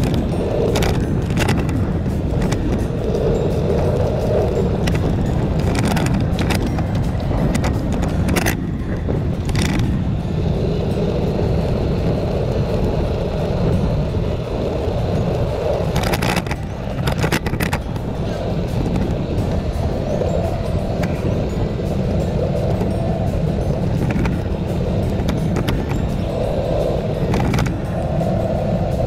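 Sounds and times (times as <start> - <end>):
bicycle rattling over bumps: 0.0 - 29.0
bicycle tyre rumble: 0.0 - 29.0
wind rush on microphone: 0.0 - 29.0.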